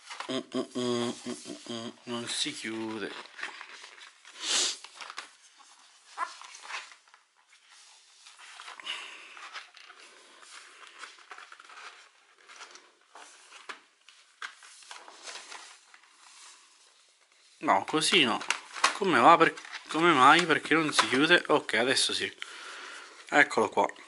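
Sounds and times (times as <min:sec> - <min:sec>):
packaging rustling and scraping: 0:02.2 - 0:22.3.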